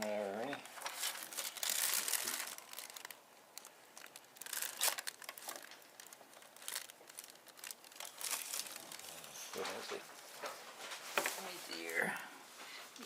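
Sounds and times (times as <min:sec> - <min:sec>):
plastic crinkling and rustling: 0:00.0 - 0:13.0.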